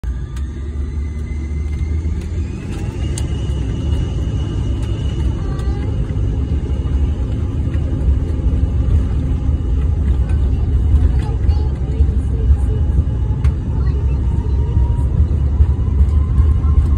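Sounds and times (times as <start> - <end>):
jet engines cabin rumble: 0.0 - 16.9.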